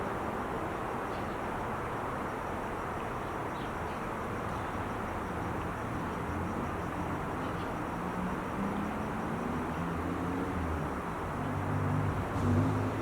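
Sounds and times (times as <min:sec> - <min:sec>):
distant freeway traffic: 0:00.0 - 0:13.0.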